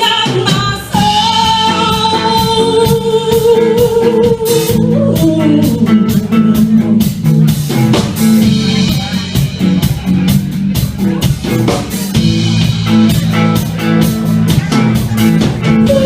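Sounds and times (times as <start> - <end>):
drum kit: 0.0 - 16.0.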